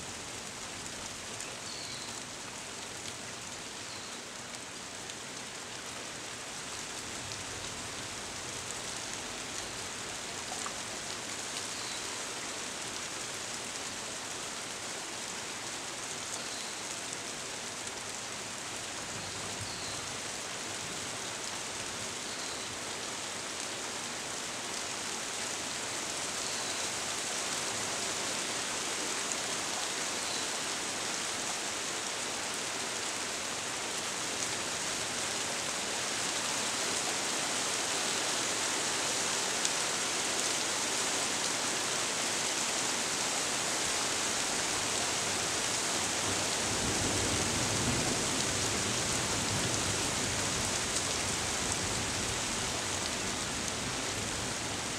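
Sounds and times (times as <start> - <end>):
rain falling through leaves: 0.0 - 54.9.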